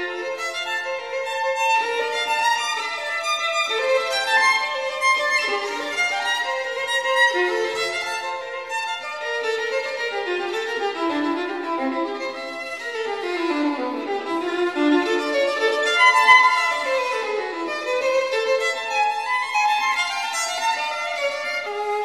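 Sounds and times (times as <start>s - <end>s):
solo violin melody: 0.0s - 22.0s.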